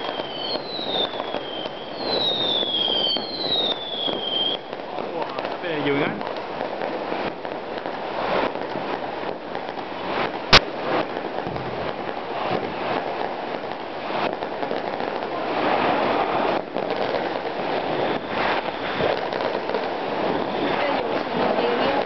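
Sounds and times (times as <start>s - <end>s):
loud firework bang: 0.0s - 7.6s, 8.2s - 22.0s
firecrackers crackling: 0.0s - 22.0s.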